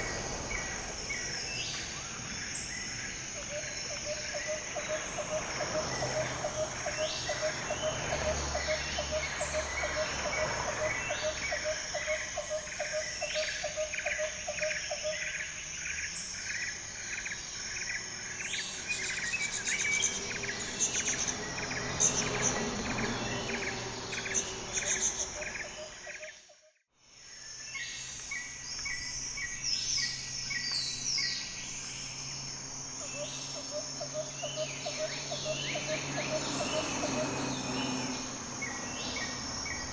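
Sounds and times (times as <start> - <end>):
insects chirring: 0.0 - 26.5, 27.2 - 39.9.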